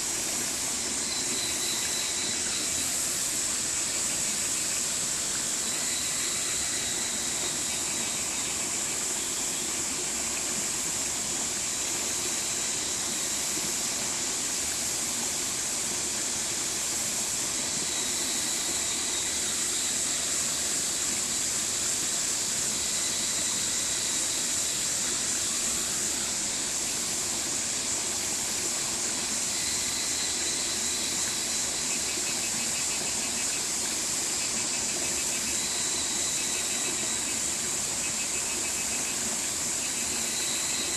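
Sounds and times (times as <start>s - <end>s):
high-pitched hiss: 0.0s - 40.9s.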